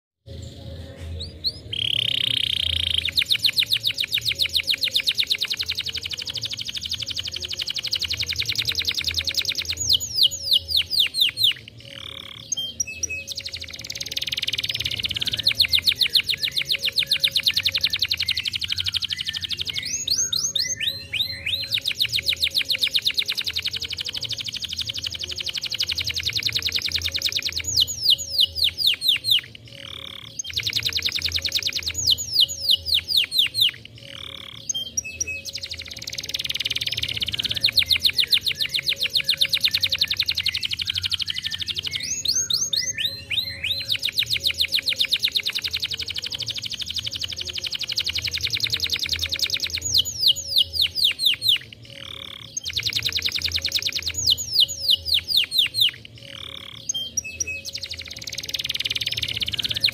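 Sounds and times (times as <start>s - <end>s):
canary trilling: 1.2s - 59.9s.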